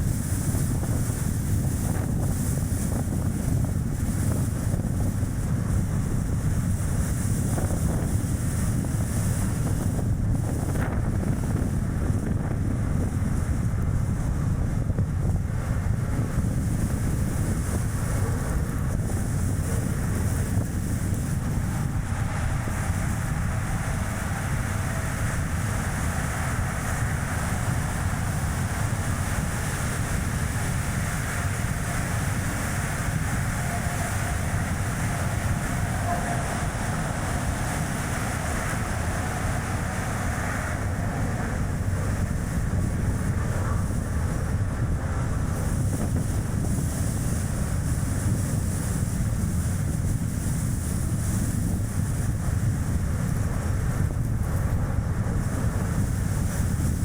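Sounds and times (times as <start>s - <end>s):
car road and tyre noise: 0.0s - 57.0s
wind buffeting microphone: 0.0s - 57.0s.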